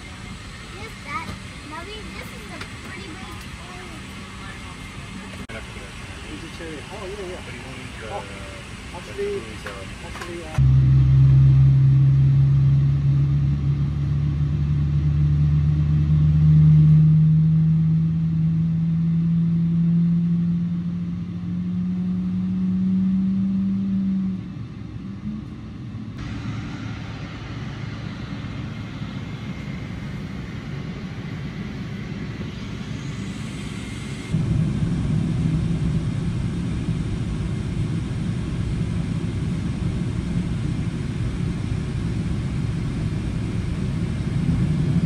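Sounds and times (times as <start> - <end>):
jet airliner cabin rumble: 0.0 - 17.0, 24.2 - 45.0.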